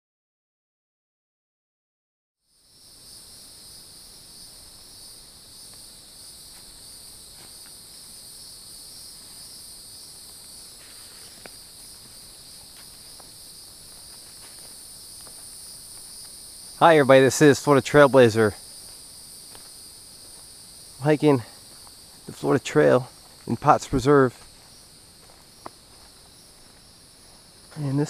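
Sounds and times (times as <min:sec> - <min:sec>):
high-pitched insect chorus: 0:02.4 - 0:28.0.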